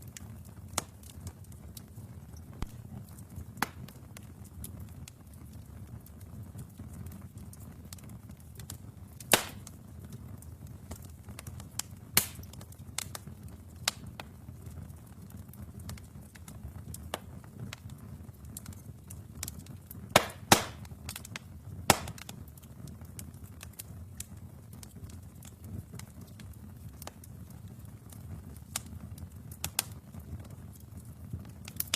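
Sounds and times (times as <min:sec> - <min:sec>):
fire crackling and popping: 0:00.0 - 0:31.9
rumble of flames: 0:00.0 - 0:31.9.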